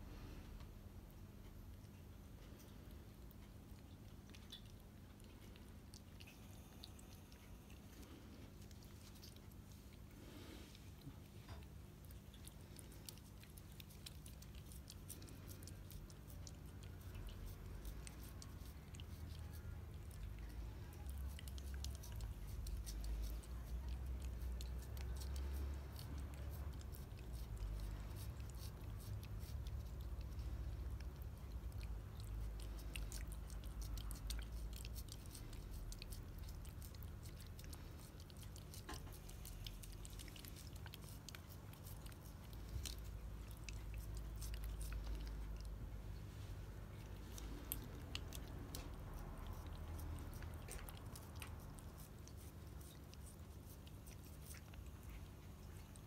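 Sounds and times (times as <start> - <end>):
low steady hum: 0.0 - 56.0
cat licking and smacking: 0.2 - 56.0.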